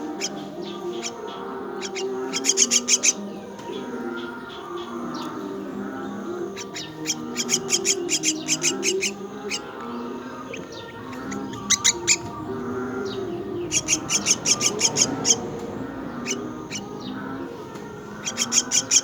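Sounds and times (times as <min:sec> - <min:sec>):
chicks begging calls: 0:00.0 - 0:19.0.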